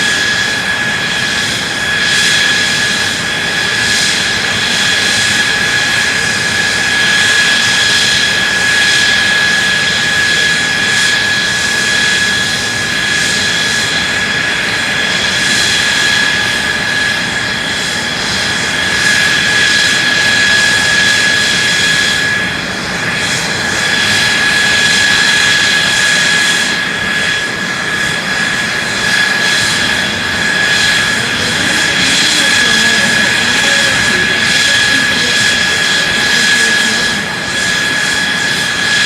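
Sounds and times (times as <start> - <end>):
high-pitched whine: 0.0 - 39.0
jet engine running: 0.0 - 39.0.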